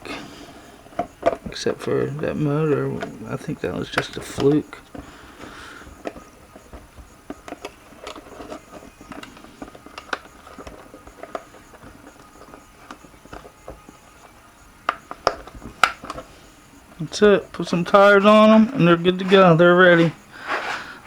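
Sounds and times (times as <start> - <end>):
small plastic parts clicking: 0.0 - 18.8.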